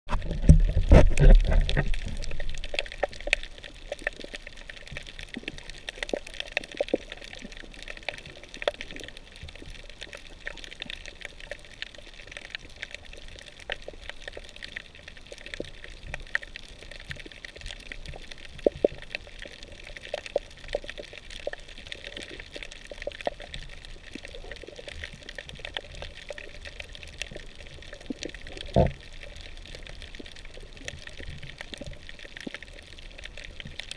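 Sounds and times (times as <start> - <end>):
clicks and crackles: 0.1 - 33.9.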